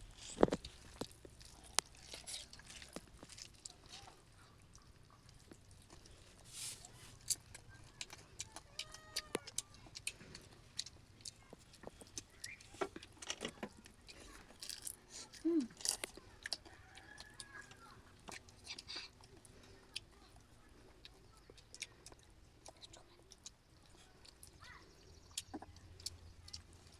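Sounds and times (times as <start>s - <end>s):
food crunching: 0.0s - 26.9s
wet chewing: 0.0s - 26.9s.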